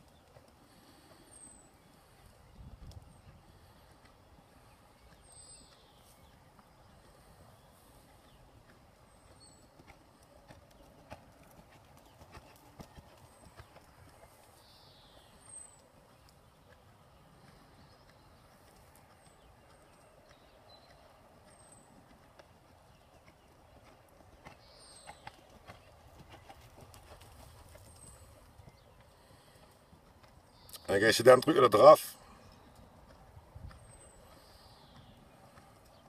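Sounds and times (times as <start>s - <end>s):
horse hoofbeats on sand: 2.8s - 31.6s, 32.5s - 36.0s.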